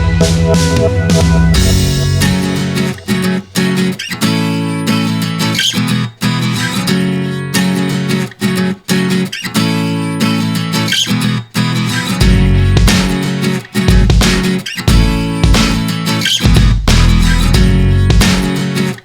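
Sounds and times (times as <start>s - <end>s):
guitar chords strummed: 0.0s - 19.0s.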